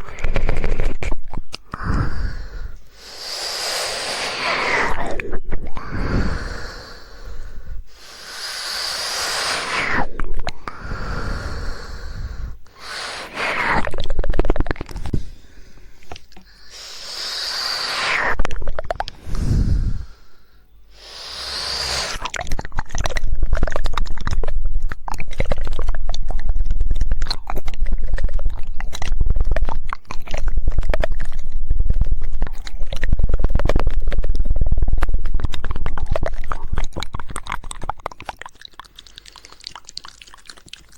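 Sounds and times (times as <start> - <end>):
rapid tongue clicking: 0.0 - 40.9
wet mouth noises: 0.0 - 40.9.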